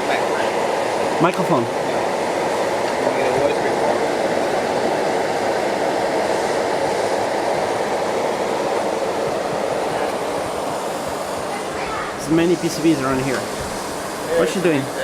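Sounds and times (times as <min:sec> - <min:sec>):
ventilation and machinery hum: 0:00.0 - 0:15.0.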